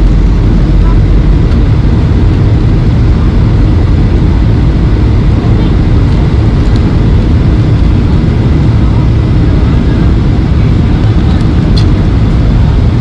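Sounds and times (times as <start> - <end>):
jet engines and airflow roar: 0.0 - 13.0.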